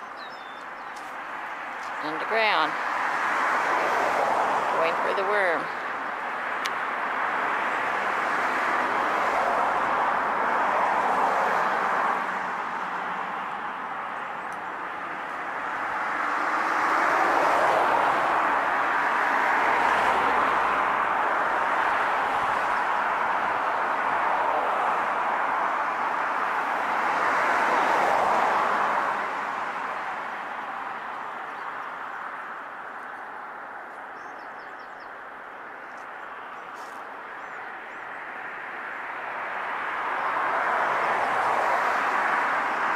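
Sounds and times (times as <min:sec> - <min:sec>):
distant road traffic rushing: 0:00.0 - 0:42.9.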